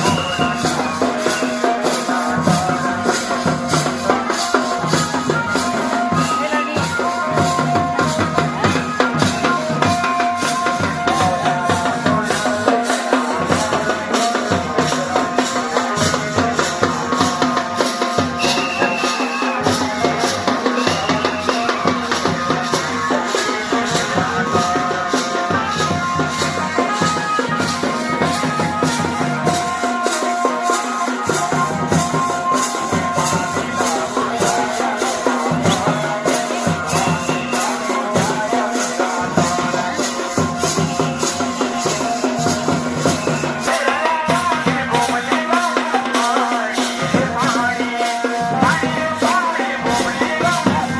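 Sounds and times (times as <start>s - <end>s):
drum beat: 0.0s - 50.9s
rattling percussion: 0.0s - 50.9s
voices singing folk melody: 0.0s - 50.9s.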